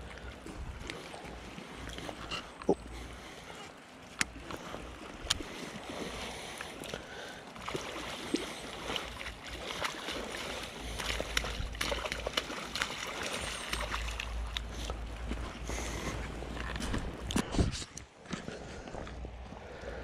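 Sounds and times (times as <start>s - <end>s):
water splashing in shallows: 0.0s - 17.9s.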